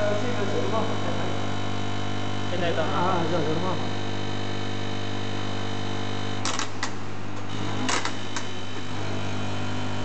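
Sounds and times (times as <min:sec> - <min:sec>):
vibrating feeder trays humming: 0:00.0 - 0:10.0.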